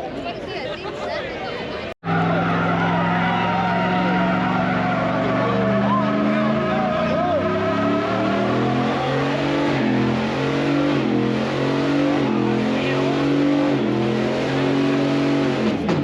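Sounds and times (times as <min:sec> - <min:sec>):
truck engine revving high: 0:02.0 - 0:16.0.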